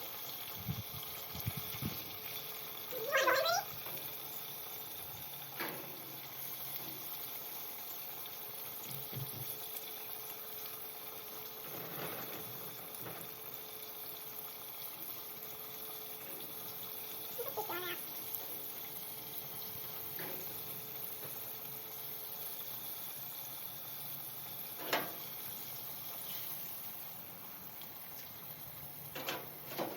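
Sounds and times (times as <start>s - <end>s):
chicken deep-frying in oil: 0.0s - 29.9s.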